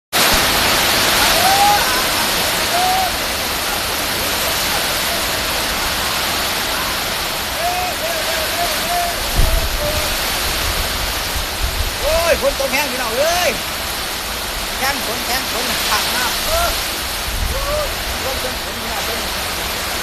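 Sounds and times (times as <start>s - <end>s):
heavy rain pouring: 0.2s - 20.0s.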